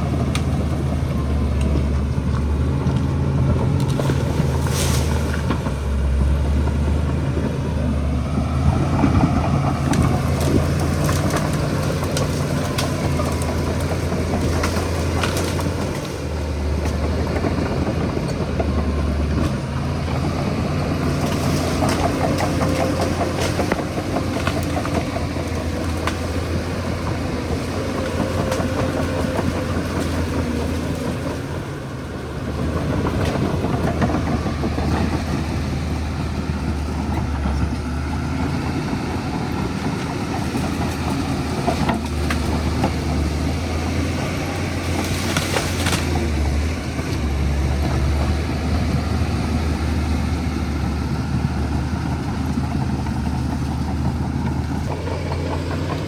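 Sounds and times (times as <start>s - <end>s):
bulldozer diesel engine running: 0.0s - 56.0s
steel tracks clanking: 0.0s - 56.0s.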